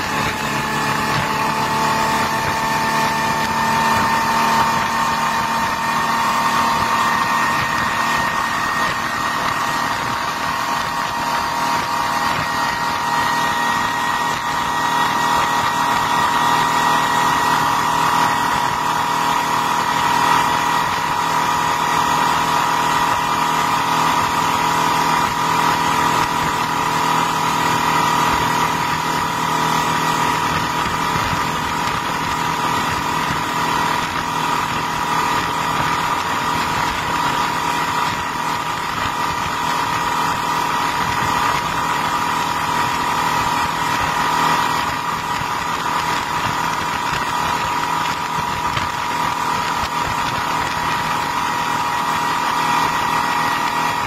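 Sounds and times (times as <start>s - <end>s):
outboard engine whine: 0.0s - 54.0s.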